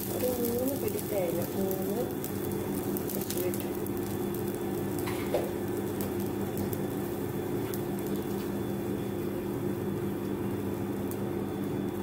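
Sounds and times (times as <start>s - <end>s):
coconut crackling in a pan: 0.0s - 12.0s
steady low hum: 0.0s - 12.0s.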